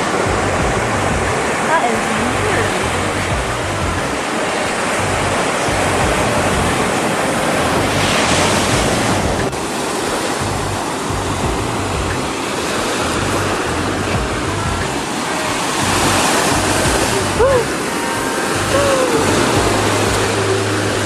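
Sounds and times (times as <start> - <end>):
ocean surf washing: 0.0 - 21.0
wind gusting on microphone: 0.0 - 21.0.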